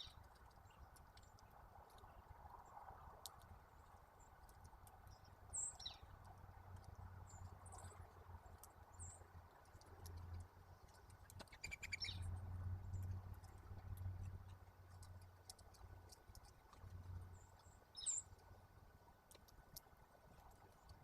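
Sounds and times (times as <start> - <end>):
light clicks: 0.0 - 2.2, 3.1 - 18.6, 19.2 - 21.0
songbirds chirping: 0.0 - 21.0.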